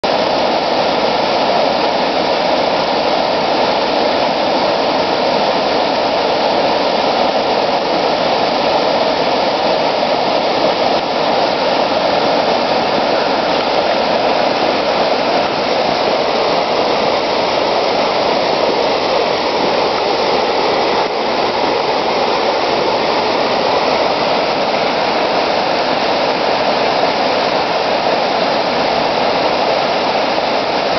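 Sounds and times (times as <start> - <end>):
waterfall rushing over rocks: 0.0 - 30.9.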